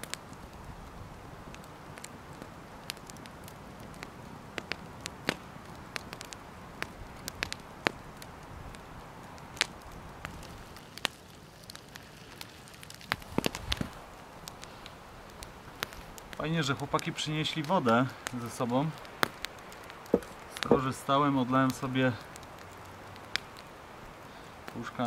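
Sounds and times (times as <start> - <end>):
campfire crackling and popping: 0.0 - 25.0
flames rushing: 0.0 - 25.0.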